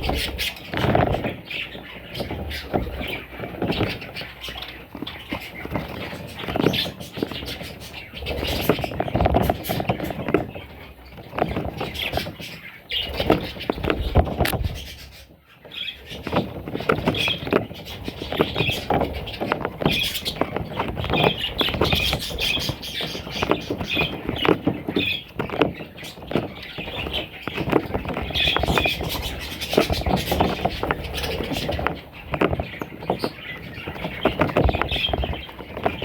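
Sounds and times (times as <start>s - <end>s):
bird chicks cheeping: 0.0s - 36.0s.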